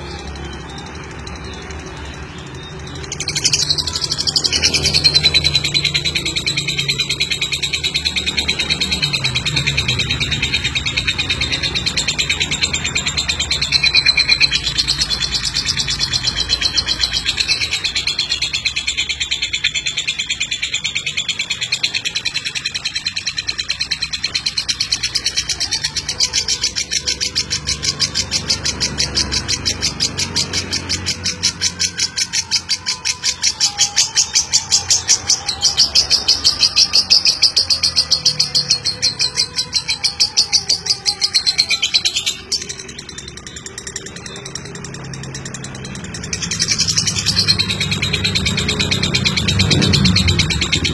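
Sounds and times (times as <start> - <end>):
bird chattering trill: 0.0 - 50.9.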